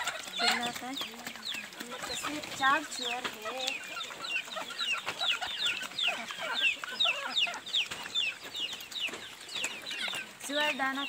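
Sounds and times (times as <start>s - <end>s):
chickens peeping: 0.0s - 11.0s.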